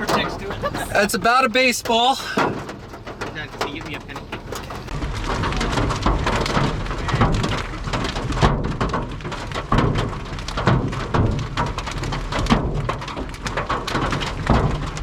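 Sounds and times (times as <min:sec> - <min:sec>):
hail and heavy rain pelting: 0:00.0 - 0:15.0
low rumble of wind: 0:02.4 - 0:15.0.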